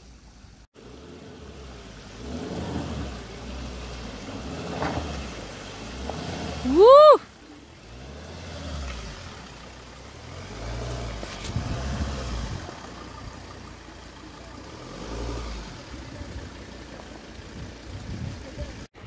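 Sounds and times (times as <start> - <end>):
car engine revving off-road: 0.0 - 19.0.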